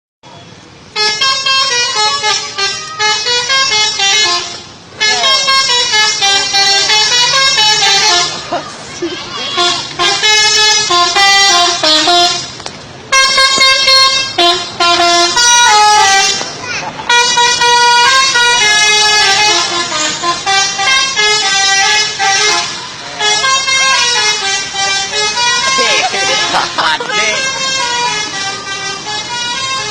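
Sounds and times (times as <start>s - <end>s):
multi-tone air horns playing melody: 0.9s - 29.9s.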